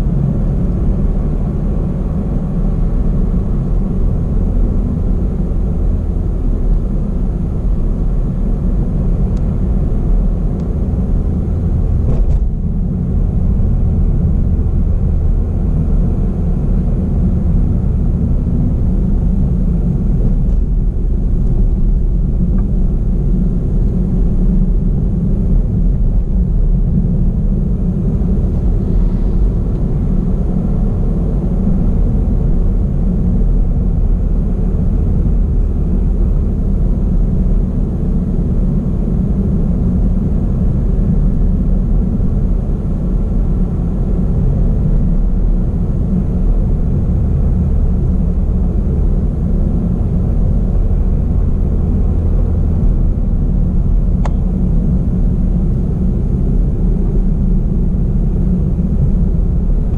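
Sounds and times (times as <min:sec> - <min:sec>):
car driving on road: 0:00.0 - 0:59.9.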